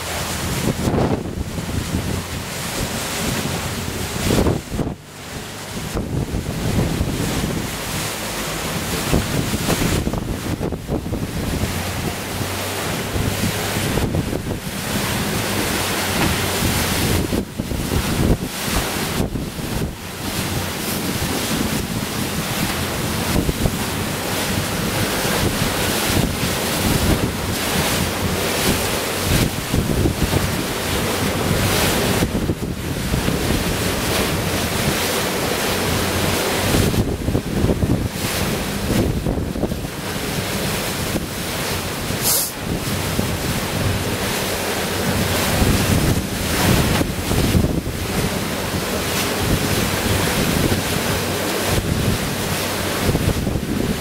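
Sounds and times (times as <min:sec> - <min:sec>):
low engine hum: 0:00.0 - 0:54.0
sea waves washing: 0:00.0 - 0:54.0
wind buffeting microphone: 0:00.0 - 0:54.0.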